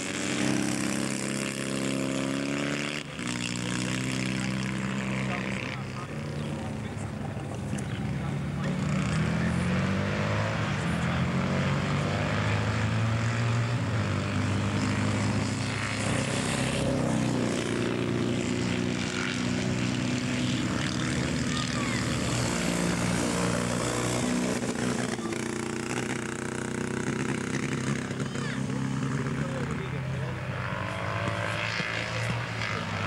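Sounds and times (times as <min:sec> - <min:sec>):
motorcycle engines passing: 0:00.0 - 0:33.0.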